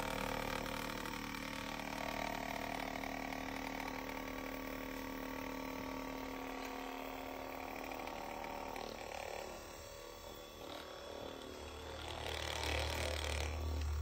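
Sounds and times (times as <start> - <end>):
massage gun motor pulsing: 0.0 - 14.0.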